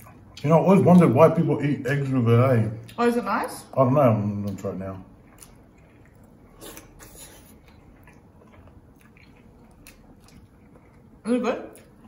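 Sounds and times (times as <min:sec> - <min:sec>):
people chewing: 0:00.0 - 0:02.1, 0:04.2 - 0:12.0.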